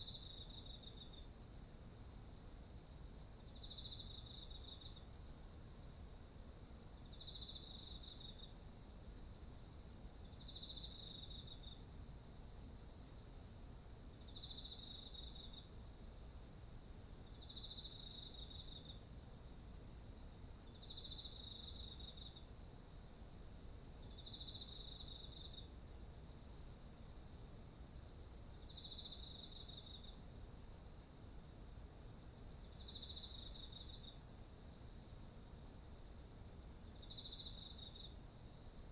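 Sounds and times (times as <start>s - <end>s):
lower pulsing insect trill: 0.0s - 38.9s.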